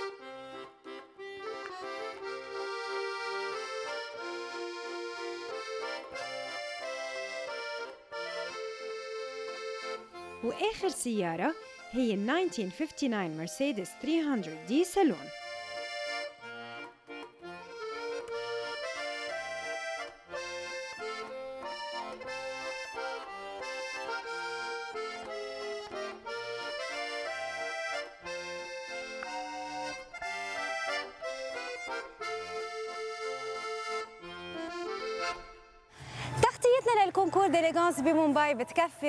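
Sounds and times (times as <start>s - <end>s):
accordion melody: 0.0s - 39.0s.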